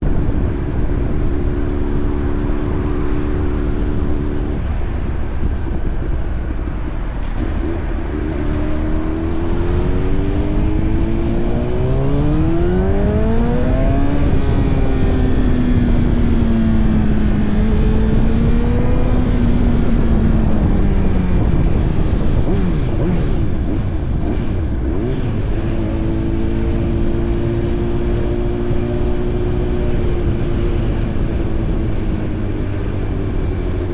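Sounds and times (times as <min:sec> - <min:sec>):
motorcycle engine accelerating: 0:00.0 - 0:33.9
wind rumble: 0:00.0 - 0:33.9.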